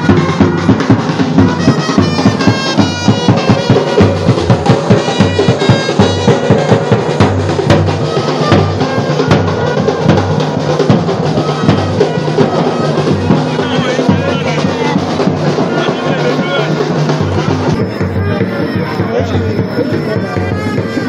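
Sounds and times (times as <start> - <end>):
band music: 0.0 - 21.0
drum beat: 0.0 - 21.0
horns playing: 0.0 - 21.0.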